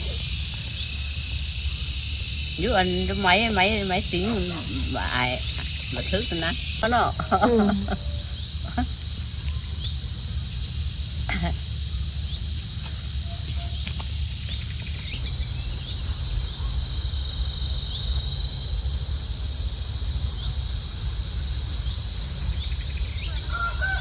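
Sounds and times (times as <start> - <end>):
insects shrilling: 0.0 - 24.0.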